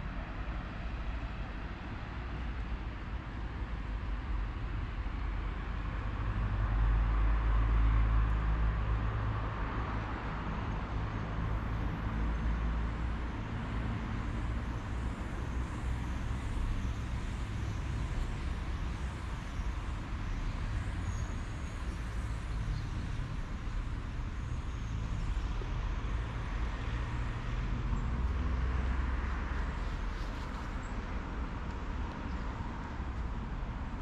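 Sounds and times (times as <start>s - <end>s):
low traffic rumble: 0.0s - 34.0s.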